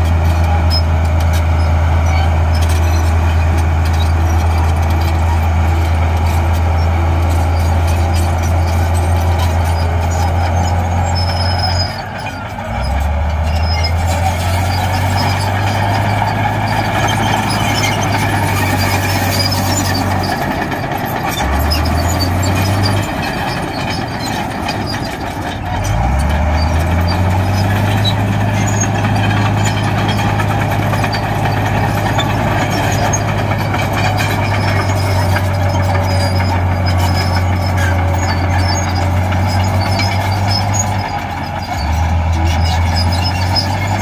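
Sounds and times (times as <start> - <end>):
heavy diesel engine revving: 0.0 - 44.0.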